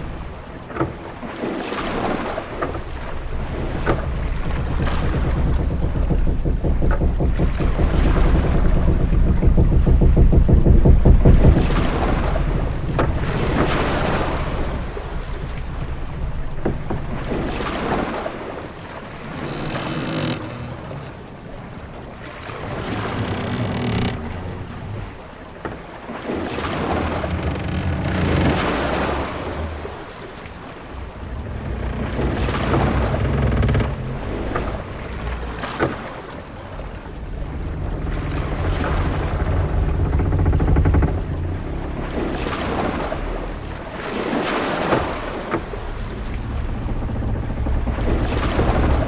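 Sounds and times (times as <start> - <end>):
drawn-out creaks: 0.0 - 49.0
waves washing against ship: 0.0 - 49.0
wind: 0.0 - 49.0
low rumble: 2.5 - 25.6, 26.4 - 49.0.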